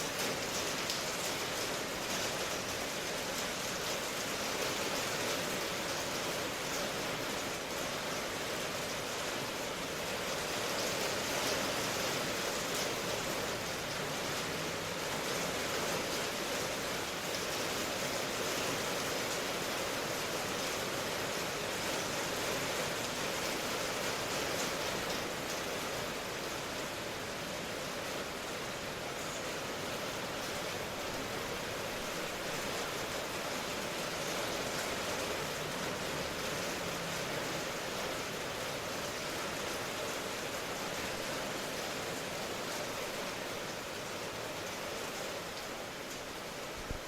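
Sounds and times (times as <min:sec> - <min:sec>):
steady rain: 0:00.0 - 0:47.0.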